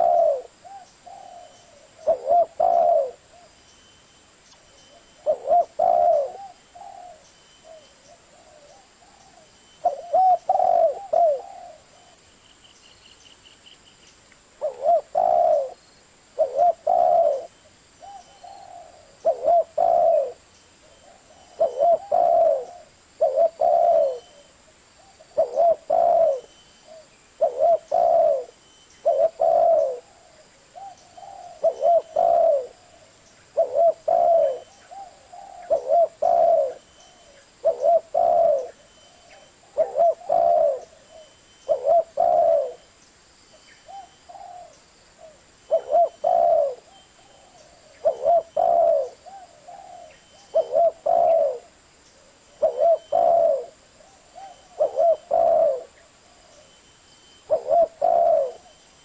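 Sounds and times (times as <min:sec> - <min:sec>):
bird cooing: 0:00.0 - 0:12.3, 0:14.6 - 0:59.0.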